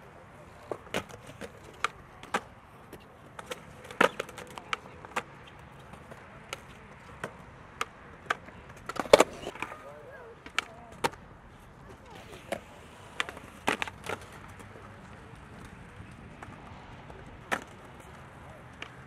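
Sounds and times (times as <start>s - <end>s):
skateboards clacking on concrete: 0.0s - 19.0s.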